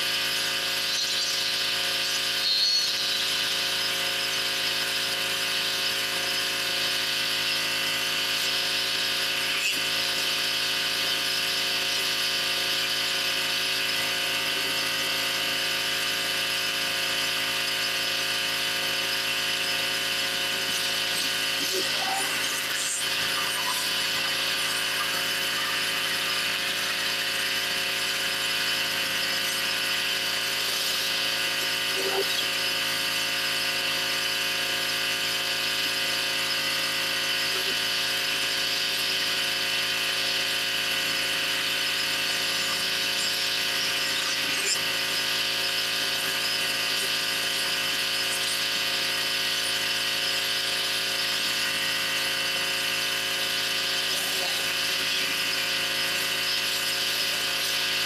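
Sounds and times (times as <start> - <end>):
pressure washer motor drone: 0.0 - 58.0.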